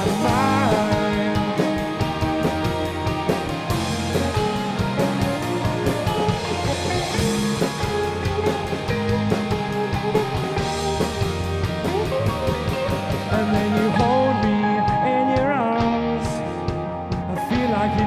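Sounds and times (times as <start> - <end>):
instrumental rock band playing: 0.0 - 18.0.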